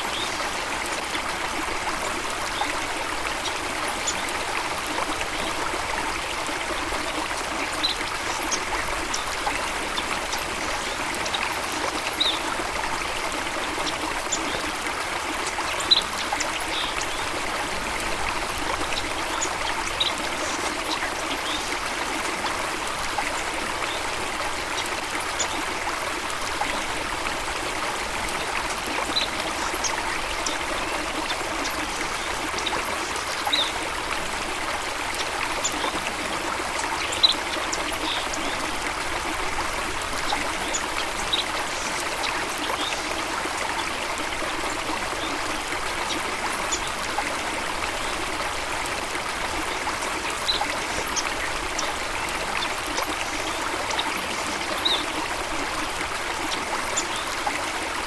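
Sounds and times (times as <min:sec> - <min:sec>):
stream of water running: 0:00.0 - 0:58.0.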